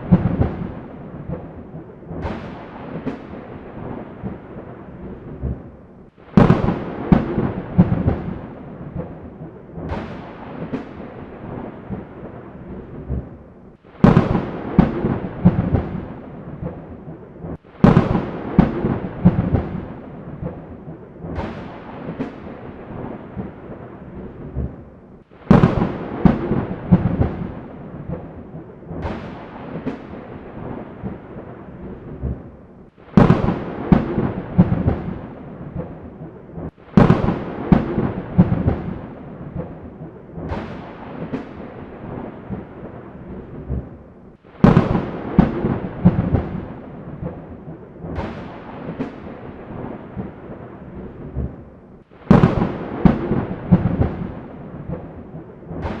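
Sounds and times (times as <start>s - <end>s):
thunder claps: 0.0s - 56.0s
thunder rumbling: 0.0s - 56.0s.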